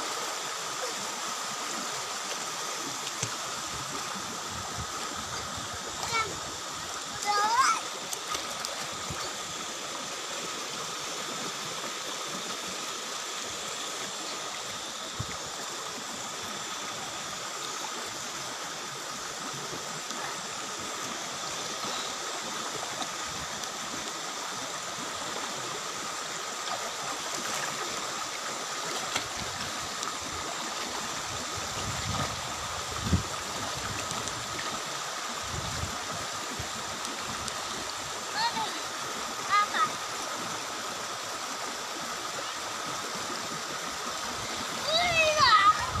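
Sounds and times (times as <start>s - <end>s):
water flowing over rocks: 0.0s - 46.0s.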